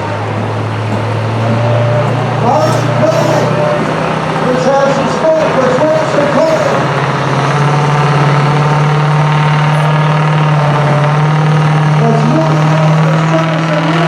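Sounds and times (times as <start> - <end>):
diesel truck engine at high revs: 0.0 - 14.0.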